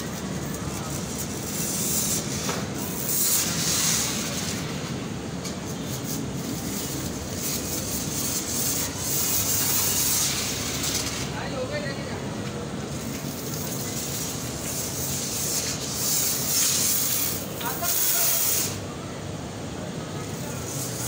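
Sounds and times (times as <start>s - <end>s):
foam lance spraying: 0.0s - 18.9s, 20.2s - 21.0s.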